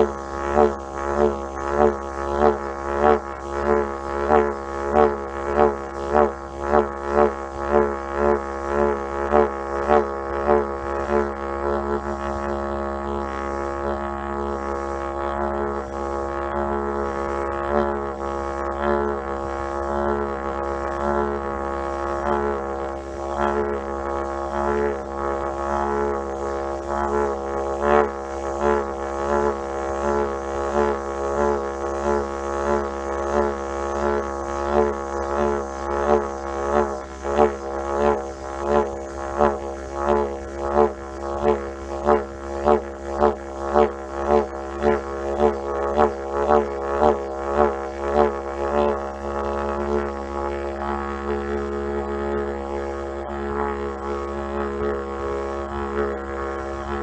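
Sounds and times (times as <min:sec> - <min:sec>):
didgeridoo drone: 0:00.0 - 0:57.0.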